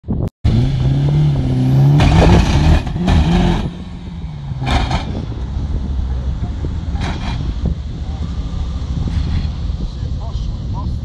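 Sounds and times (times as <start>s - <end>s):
car engine revving and accelerating: 0.5s - 11.0s.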